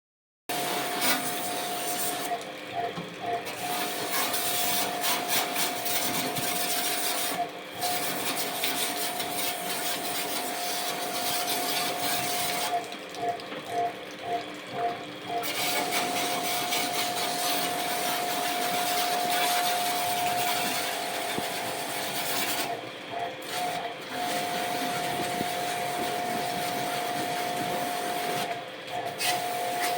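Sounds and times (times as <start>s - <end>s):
pressure washer motor whine: 0.5s - 29.9s.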